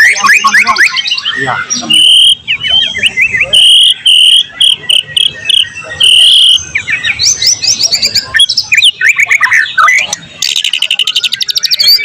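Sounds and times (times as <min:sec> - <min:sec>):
songbird whistling loudly: 0:00.0 - 0:12.0.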